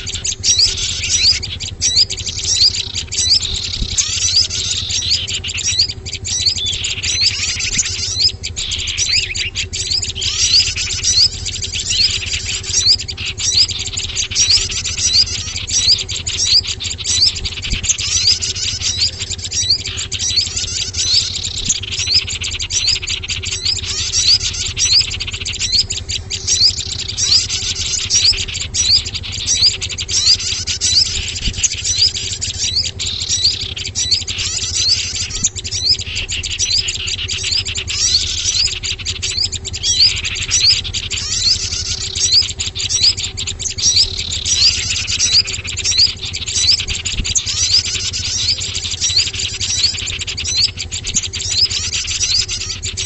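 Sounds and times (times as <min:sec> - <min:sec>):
songbirds chirping and twittering: 0:00.0 - 0:53.0
steady low hum: 0:00.0 - 0:53.0.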